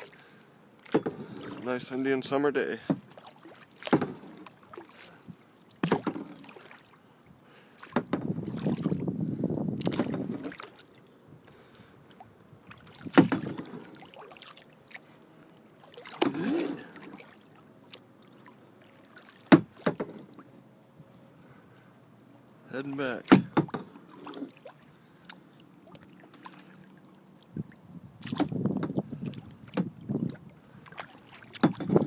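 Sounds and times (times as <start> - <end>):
paddle splashing into water: 0.0 - 7.0, 7.6 - 11.0, 12.6 - 20.6, 22.8 - 27.0, 28.2 - 32.0
rush of water: 0.0 - 20.6, 22.4 - 32.0.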